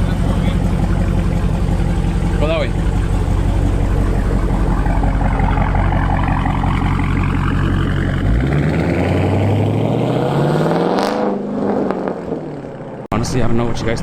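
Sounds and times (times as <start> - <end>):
car engine accelerating: 0.0 - 13.1.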